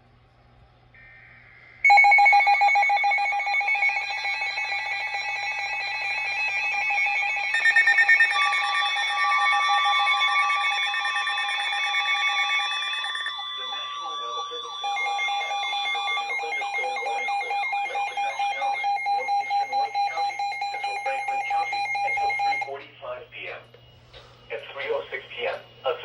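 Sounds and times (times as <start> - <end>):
harsh two-tone attention signal: 1.8 - 26.0.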